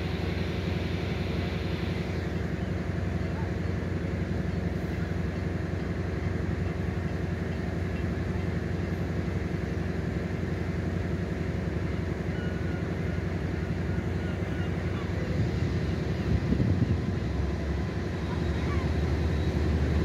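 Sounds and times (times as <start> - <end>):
train humming with low tones: 0.0 - 20.0.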